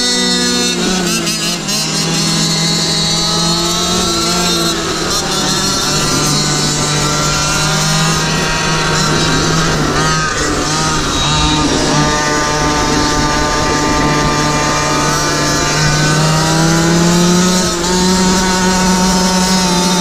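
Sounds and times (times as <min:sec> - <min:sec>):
two-stroke engine at high revs: 0:00.0 - 0:20.0.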